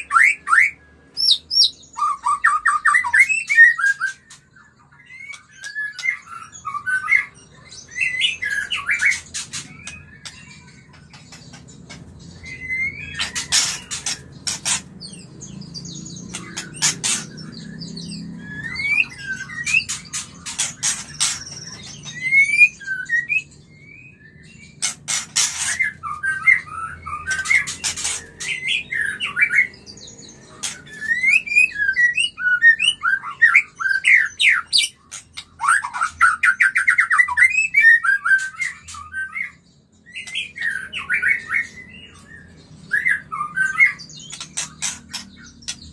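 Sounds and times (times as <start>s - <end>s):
bird whistling calls: 0.0s - 4.4s, 5.0s - 11.5s, 12.3s - 15.2s, 16.1s - 29.8s, 30.5s - 45.9s.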